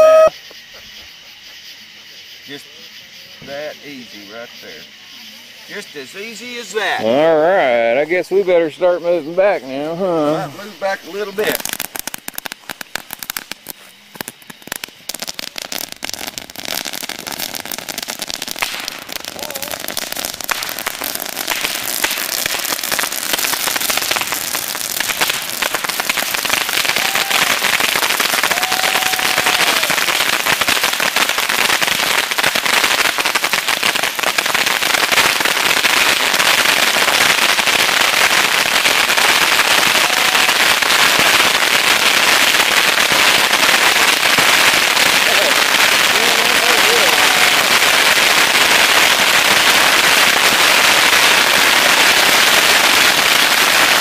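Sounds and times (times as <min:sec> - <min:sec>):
bottle rockets crackling pops: 0:10.3 - 0:54.0.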